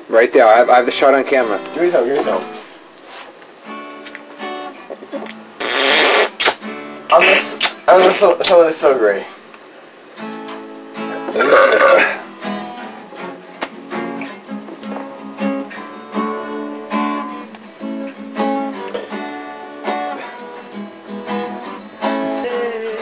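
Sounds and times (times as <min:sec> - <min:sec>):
acoustic guitar strumming: 0:00.6 - 0:08.2, 0:09.9 - 0:23.0.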